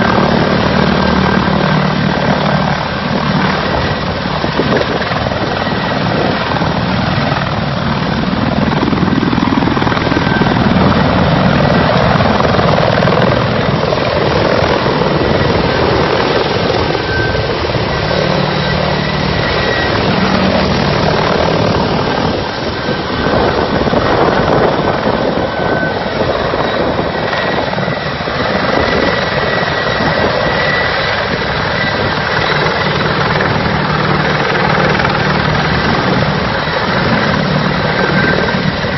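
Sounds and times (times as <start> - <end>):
faint turbine whine: 0.0 - 38.9
helicopter rotor noise: 0.0 - 38.9.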